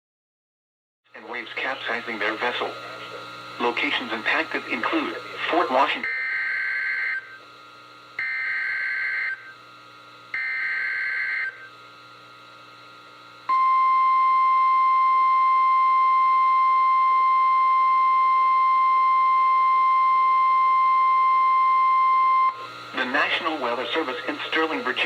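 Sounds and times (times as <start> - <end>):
steady warning alarm tone: 3.2 - 12.1, 13.5 - 25.0.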